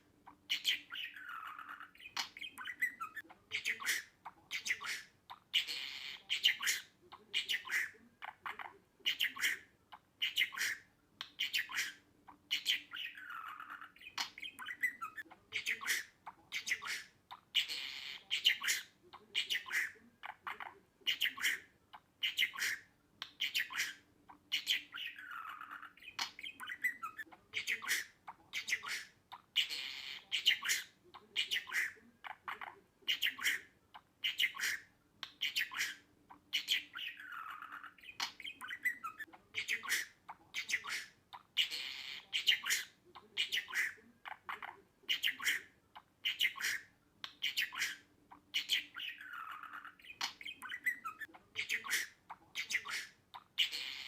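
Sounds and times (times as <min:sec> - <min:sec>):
budgerigar chattering: 0:00.3 - 0:54.0.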